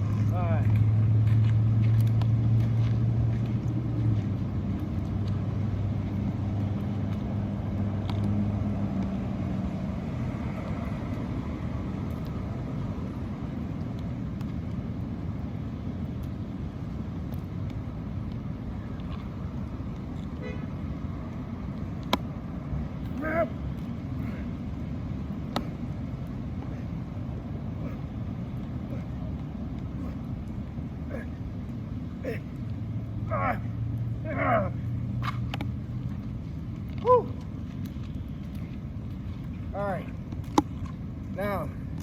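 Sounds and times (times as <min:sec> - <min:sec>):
traffic noise: 0:00.0 - 0:42.0
vehicle engine hum: 0:00.0 - 0:42.0.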